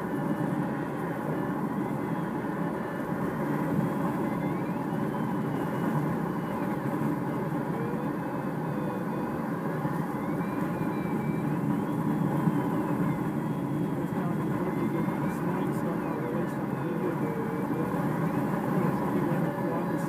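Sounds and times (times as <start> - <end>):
plane engine drone: 0.0 - 20.0
high electronic tone: 1.7 - 20.0.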